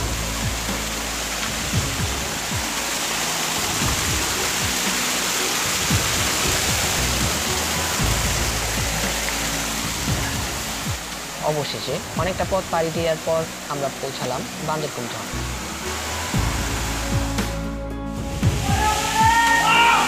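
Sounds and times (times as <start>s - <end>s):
background music: 0.0s - 20.0s
waterfall rushing: 0.0s - 20.0s.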